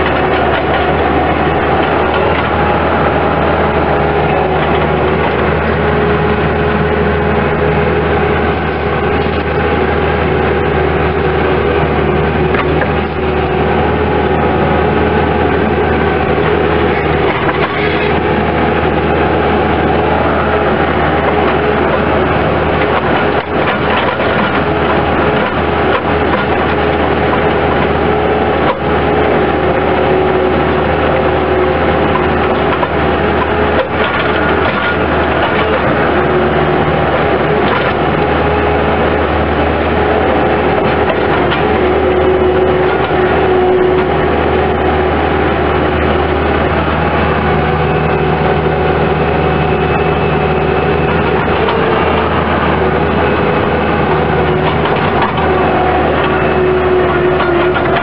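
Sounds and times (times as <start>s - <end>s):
diesel engine running: 0.0s - 58.0s
steady whine: 0.0s - 58.0s.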